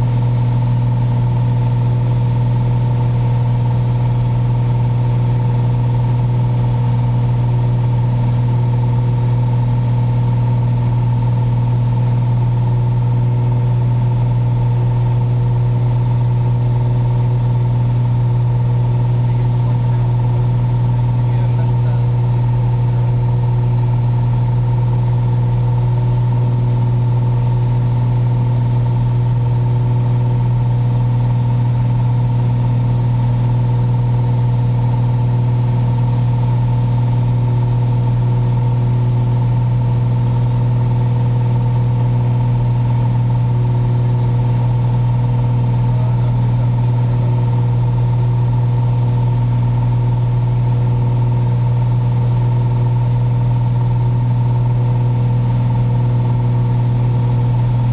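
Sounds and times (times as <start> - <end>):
propeller aircraft engine drone: 0.0 - 57.9.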